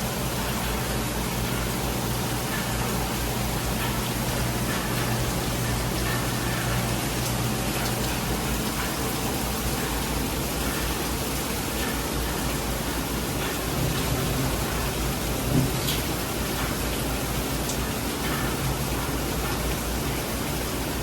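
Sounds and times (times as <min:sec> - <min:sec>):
heavy rain falling: 0:00.1 - 0:21.0.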